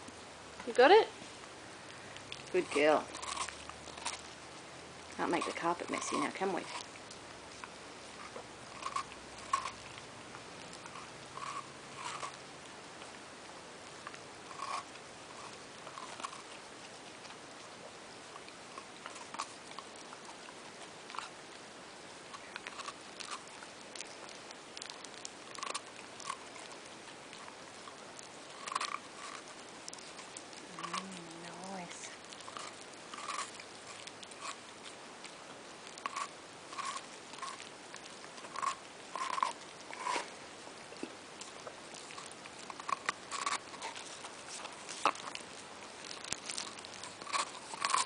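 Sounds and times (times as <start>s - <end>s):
dog chewing ice lolly: 0.6s - 48.0s.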